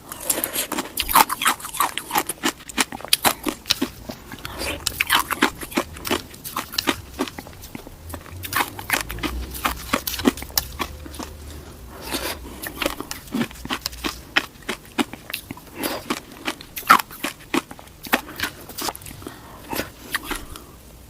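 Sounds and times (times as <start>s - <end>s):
ice being chewed: 0.0s - 20.7s.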